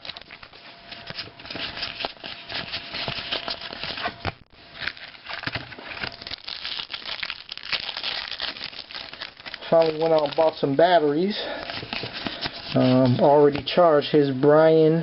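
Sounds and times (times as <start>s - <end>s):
wrapper crinkling and tearing: 0.0s - 13.3s.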